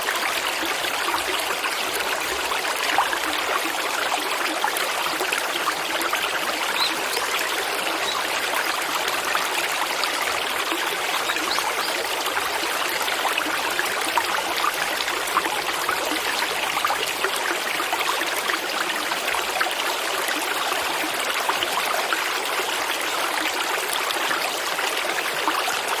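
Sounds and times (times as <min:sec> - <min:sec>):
water flowing and trickling: 0:00.0 - 0:26.0.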